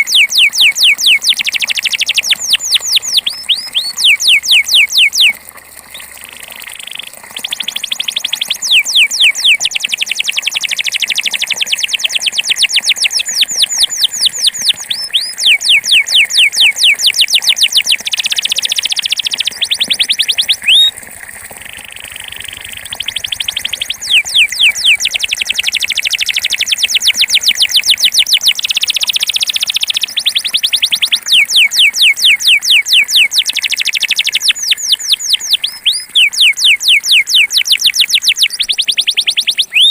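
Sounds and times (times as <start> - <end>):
canary singing trills: 0.0 - 6.1, 7.3 - 20.9, 22.6 - 39.9.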